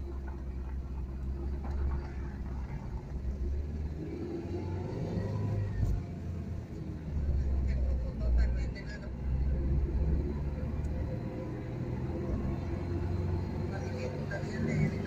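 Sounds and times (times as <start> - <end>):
car interior road rumble: 0.0 - 15.0.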